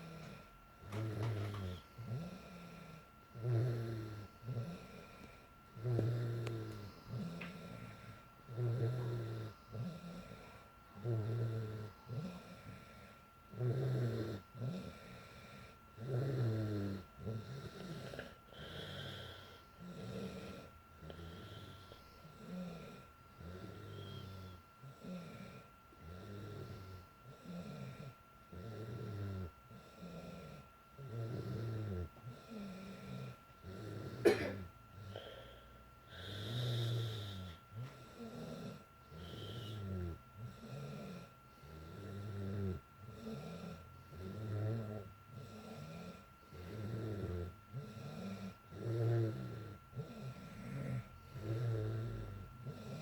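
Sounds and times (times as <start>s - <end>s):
girl snoring: 0.0s - 53.0s.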